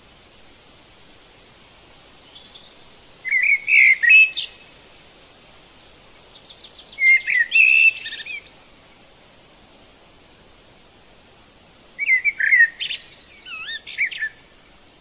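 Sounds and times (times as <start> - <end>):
faint steady hiss: 0.0 - 15.0
songbird singing: 1.9 - 15.0.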